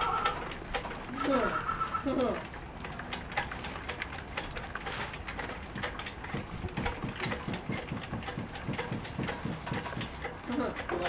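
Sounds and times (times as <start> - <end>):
rhythmic mechanical clicking: 0.0 - 11.0
hot oil crackling and spitting: 0.2 - 11.0.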